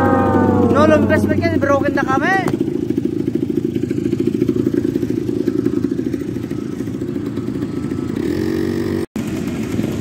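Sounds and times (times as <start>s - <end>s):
quad bike engine throbbing: 0.0s - 10.0s.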